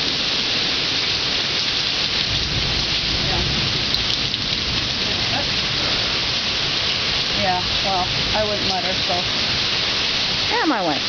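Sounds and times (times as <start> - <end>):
heavy rain pouring: 0.0 - 11.0
thunder rumbling: 2.0 - 11.0.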